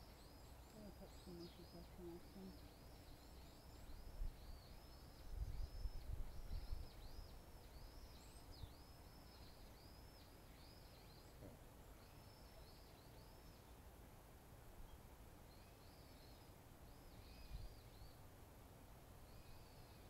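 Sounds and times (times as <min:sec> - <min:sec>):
small bird chirping: 0:00.0 - 0:13.9, 0:14.8 - 0:18.3, 0:19.2 - 0:20.0.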